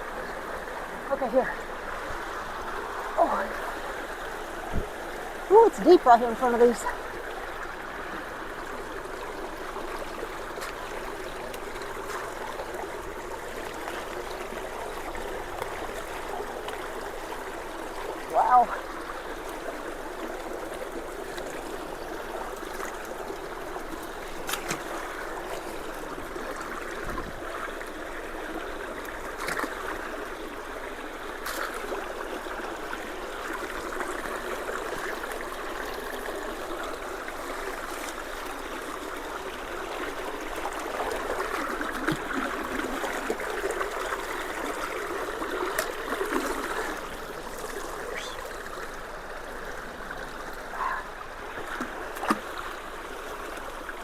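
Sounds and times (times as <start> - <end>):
creek water running: 0.0 - 54.0.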